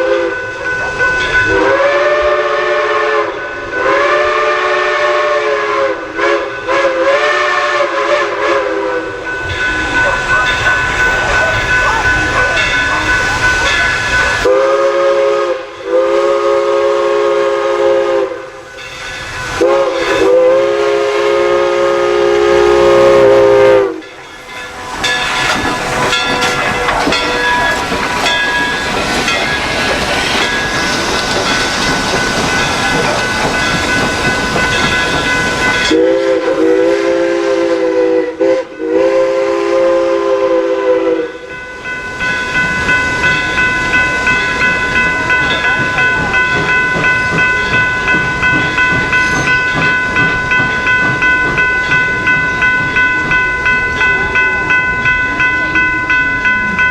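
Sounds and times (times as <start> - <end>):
steam hissing: 0.0 - 56.9
steam locomotive chime whistle: 0.0 - 56.9.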